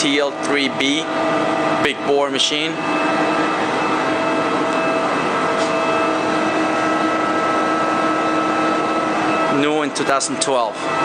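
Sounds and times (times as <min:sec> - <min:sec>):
machinery hum: 0:00.0 - 0:11.0
steady machine whine: 0:00.0 - 0:11.0.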